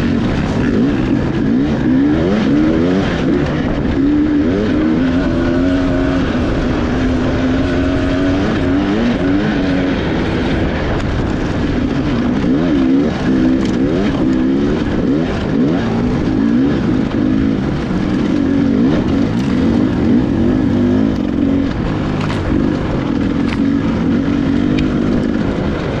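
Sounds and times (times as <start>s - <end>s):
dirt bike engine revving: 0.0s - 26.0s
wind and terrain noise: 0.0s - 26.0s.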